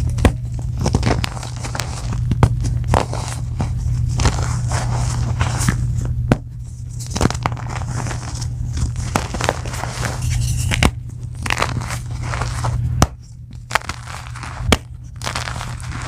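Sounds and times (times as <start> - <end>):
chalk crumbling crackle: 0.0 - 6.0, 6.7 - 12.9, 13.5 - 16.0
steady low hum: 0.0 - 16.0.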